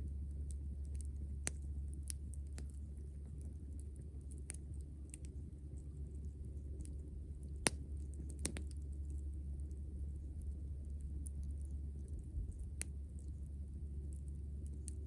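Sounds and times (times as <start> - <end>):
steady low hum: 0.0 - 15.0
campfire crackling and popping: 0.3 - 15.0.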